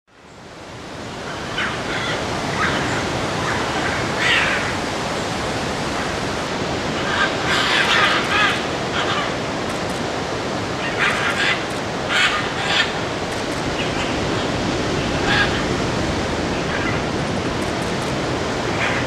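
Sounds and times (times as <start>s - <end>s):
steady rushing background noise: 0.8s - 19.0s.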